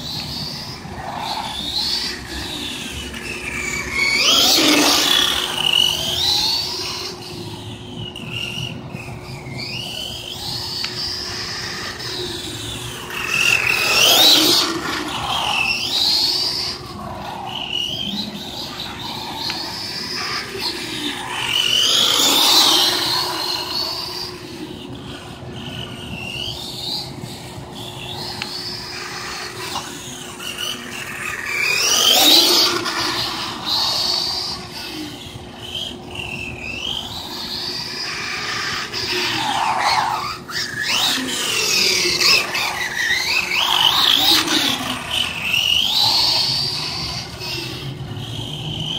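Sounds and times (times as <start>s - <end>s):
toy truck electric motor whining: 0.0s - 48.9s.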